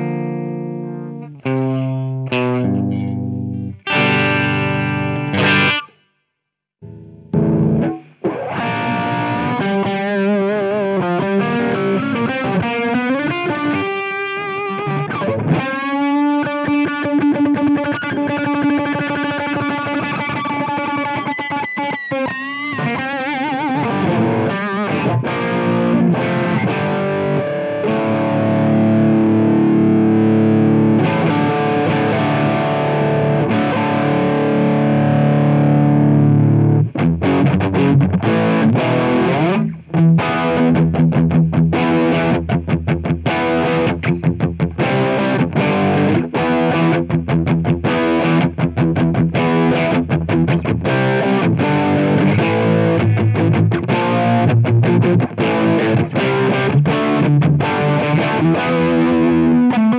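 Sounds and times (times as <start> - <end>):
distorted electric guitar: 0.0 - 6.1, 6.8 - 59.9.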